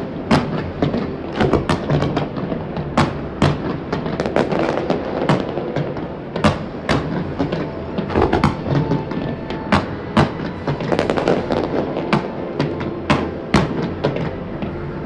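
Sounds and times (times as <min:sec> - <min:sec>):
fireworks bangs and pops: 0:00.0 - 0:14.9
fireworks crackling: 0:00.0 - 0:15.0.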